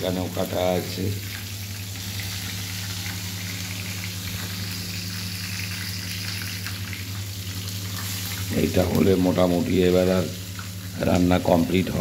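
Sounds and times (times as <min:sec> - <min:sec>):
low steady hum: 0:00.0 - 0:12.0
vegetables sizzling in oil: 0:00.2 - 0:11.8.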